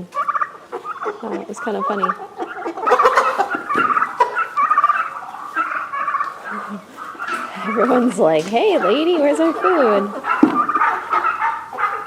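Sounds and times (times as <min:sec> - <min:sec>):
turkeys gobbling: 0:00.0 - 0:12.0.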